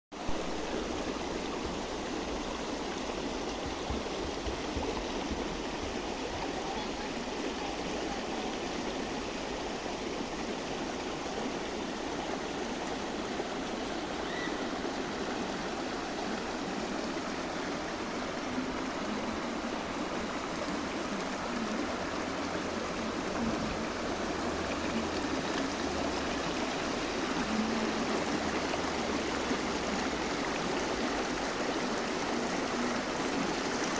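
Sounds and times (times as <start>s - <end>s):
running water flowing: 0.1s - 33.9s.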